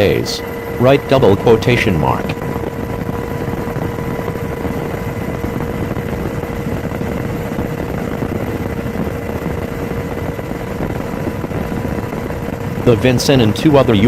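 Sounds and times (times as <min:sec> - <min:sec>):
constant hum: 0:00.0 - 0:14.0
engine machinery noise: 0:00.0 - 0:14.0.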